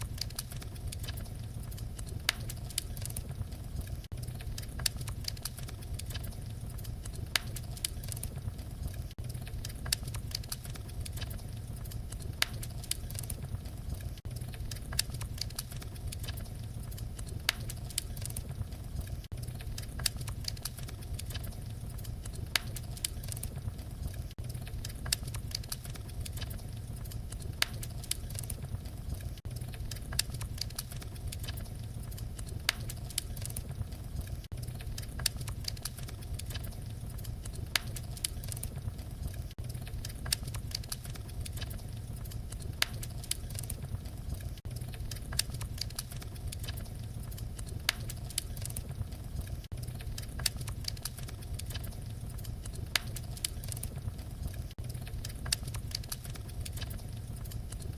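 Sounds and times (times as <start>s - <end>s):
fire popping and snapping: 0.0s - 57.9s
wood fire crackling: 0.0s - 57.9s.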